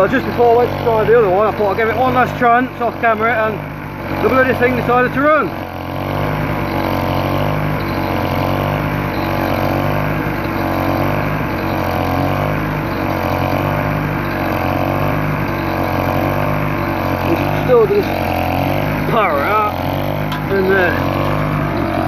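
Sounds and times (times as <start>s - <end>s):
portable generator engine running: 0.0s - 22.0s.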